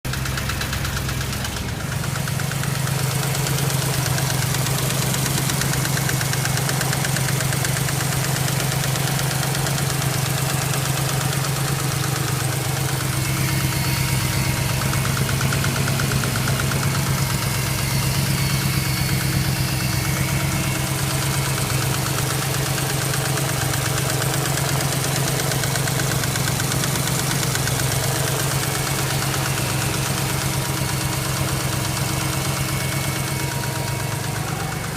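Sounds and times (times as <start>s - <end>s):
car engine idling: 0.0s - 34.9s
fast regular engine knock: 0.0s - 34.9s.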